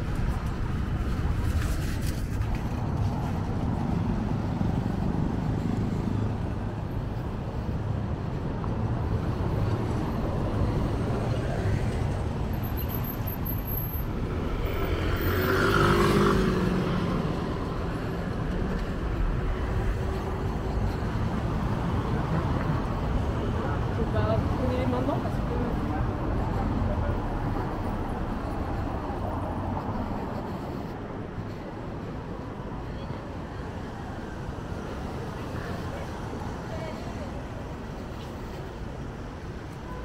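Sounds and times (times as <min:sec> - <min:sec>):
steady hum of cars: 0:00.0 - 0:40.0.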